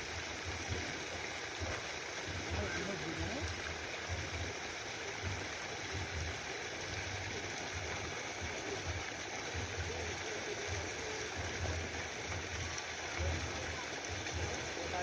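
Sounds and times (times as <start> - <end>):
faint distant voices: 0.7 - 15.0.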